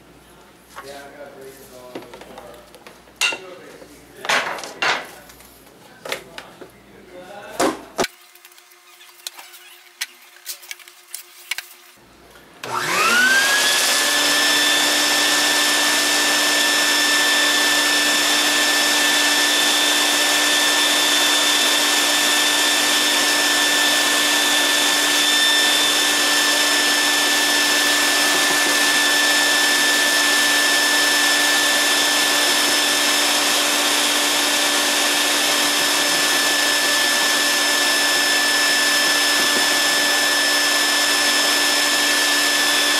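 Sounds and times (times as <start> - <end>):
shop vac running: 7.2 - 42.9.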